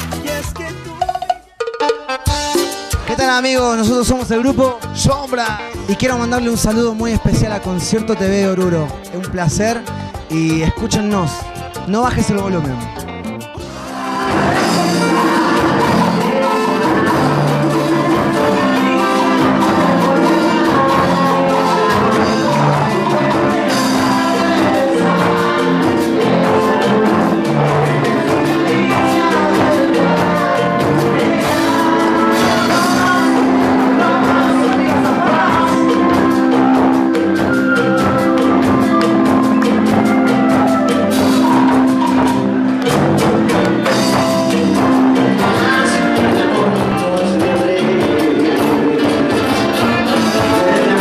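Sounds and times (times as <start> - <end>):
live band dance music: 0.0 - 51.0.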